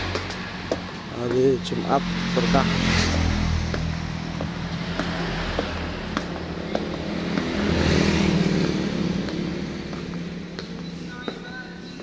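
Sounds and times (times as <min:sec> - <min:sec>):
light footsteps ticking: 0:00.0 - 0:12.0
vehicle engine running: 0:00.0 - 0:12.0.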